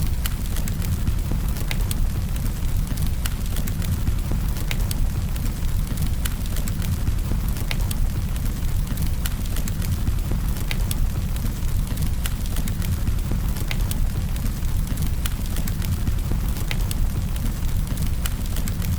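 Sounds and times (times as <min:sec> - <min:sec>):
campfire crackling and popping: 0:00.0 - 0:18.9.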